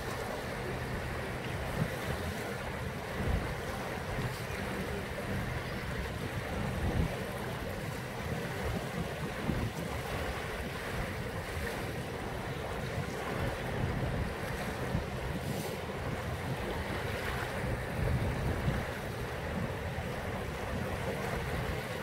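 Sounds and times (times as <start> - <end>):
waves washing onto shore: 0.0 - 22.0
wind buffeting microphone: 0.0 - 22.0.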